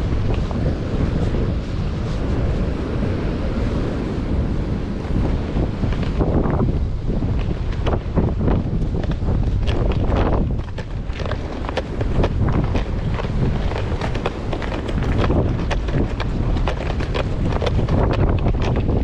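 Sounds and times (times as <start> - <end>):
gusty wind buffeting microphone: 0.0 - 19.0.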